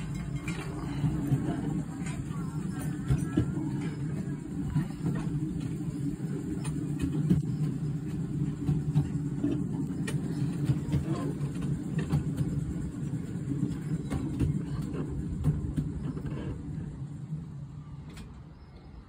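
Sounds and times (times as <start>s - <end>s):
miniature train rumbling: 0.0s - 19.0s.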